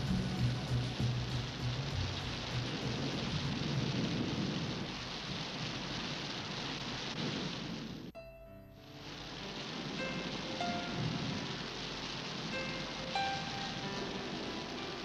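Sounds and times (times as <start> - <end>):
low thunder rumble: 0.0 - 8.2, 9.6 - 15.0
heavy rain pouring: 0.0 - 15.0.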